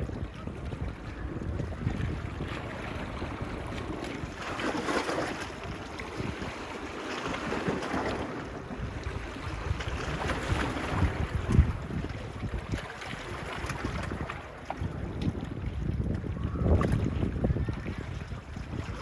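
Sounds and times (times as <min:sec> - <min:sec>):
small waves washing onto beach: 0:00.0 - 0:19.0
wind buffeting microphone: 0:00.0 - 0:19.0.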